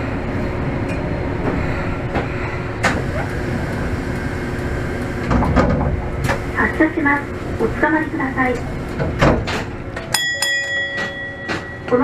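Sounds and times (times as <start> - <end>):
streetcar wheels rumbling: 0.0 - 12.0.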